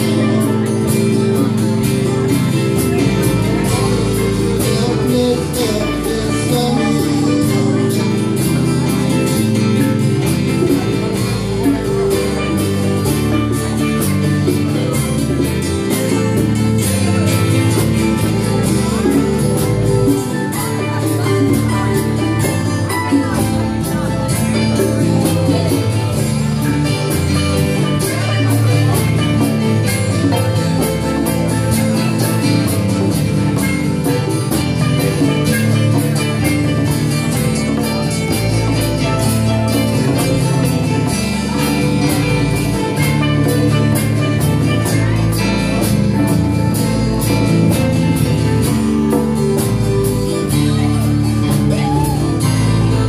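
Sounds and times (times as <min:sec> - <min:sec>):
live band jamming: 0:00.0 - 0:53.0.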